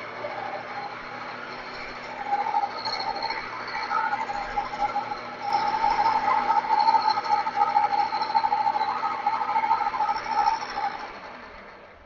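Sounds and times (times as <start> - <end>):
milling machine whining: 0.0 - 12.0.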